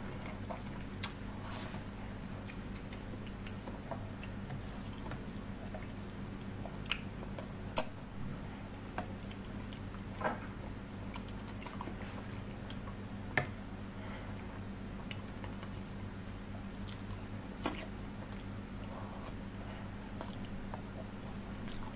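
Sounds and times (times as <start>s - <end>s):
close-up chewing: 0.0s - 7.9s, 8.7s - 13.0s, 14.4s - 21.9s
steady low hum: 0.0s - 21.9s.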